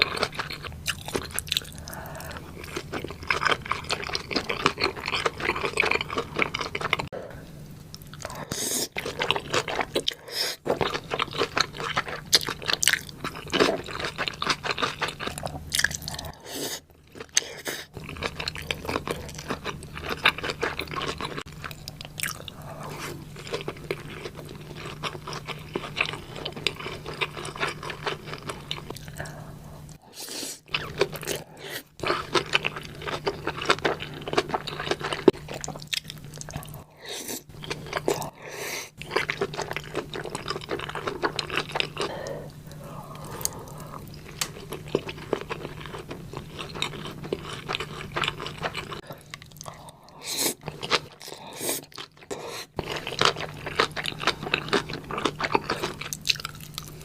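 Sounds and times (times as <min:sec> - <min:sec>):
chewing and crunching dumplings: 0:00.0 - 0:30.0, 0:30.6 - 0:57.0
faint low hum: 0:00.0 - 0:57.0.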